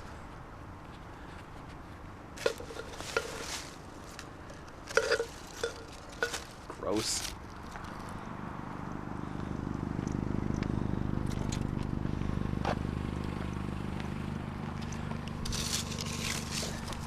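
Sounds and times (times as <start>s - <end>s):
vehicle engine running: 2.1s - 17.0s.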